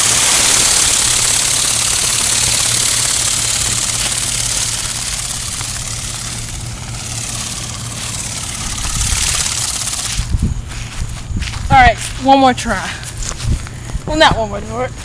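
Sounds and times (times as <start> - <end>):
toy flapping-wing bird buzzing: 0.0 - 15.0.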